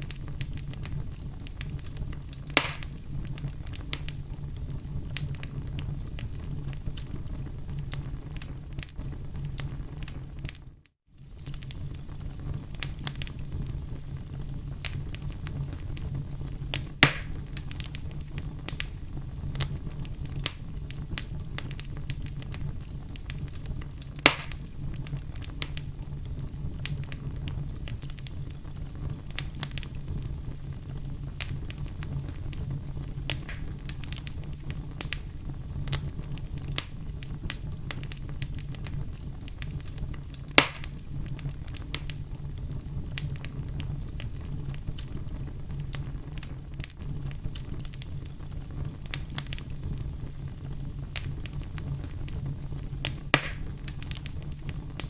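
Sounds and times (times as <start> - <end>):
sharp fire pops: 0.0 - 10.6, 11.2 - 55.0
fire low rumble: 0.0 - 55.0
wood fire crackling: 0.0 - 55.0.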